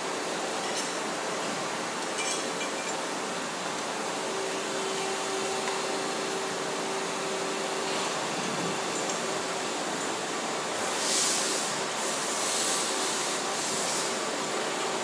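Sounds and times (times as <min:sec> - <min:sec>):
machine tools running: 0:00.0 - 0:15.0.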